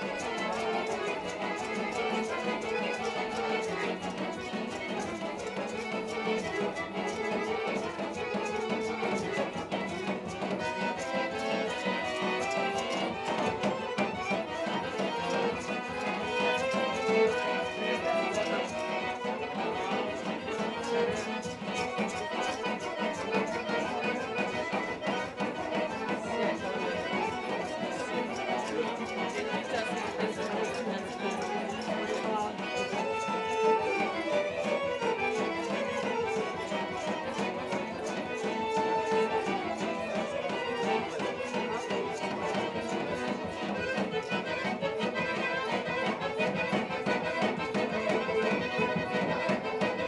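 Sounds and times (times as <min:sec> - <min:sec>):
accordion: 0:00.0 - 0:50.0
violins playing folk dance music: 0:00.0 - 0:50.0.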